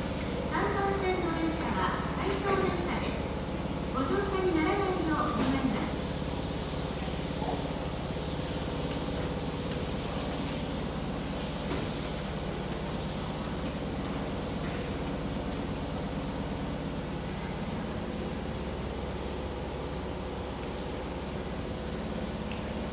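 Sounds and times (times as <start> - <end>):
train equipment hum and hiss: 0.0 - 22.9.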